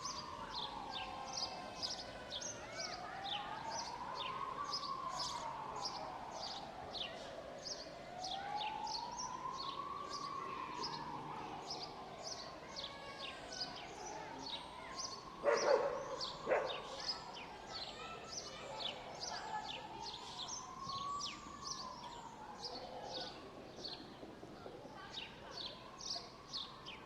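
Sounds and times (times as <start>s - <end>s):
small birds chirping: 0.0s - 24.2s.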